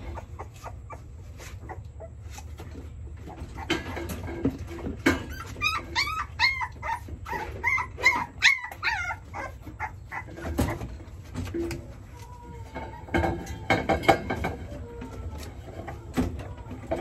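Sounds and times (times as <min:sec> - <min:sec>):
puppy whining and yelping: 0:00.0 - 0:02.6, 0:03.3 - 0:11.3, 0:12.0 - 0:17.0.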